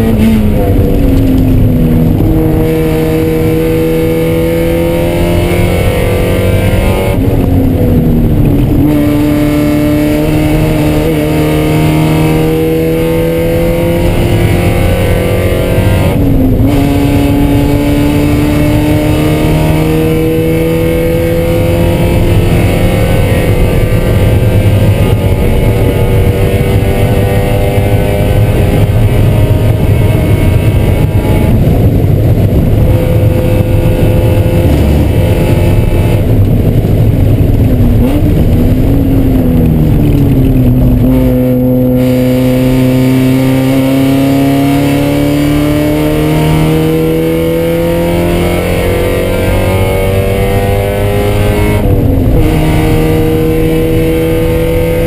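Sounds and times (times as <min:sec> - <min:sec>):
race car engine running hard: 0:00.0 - 0:55.0
road and wind noise: 0:00.0 - 0:55.0.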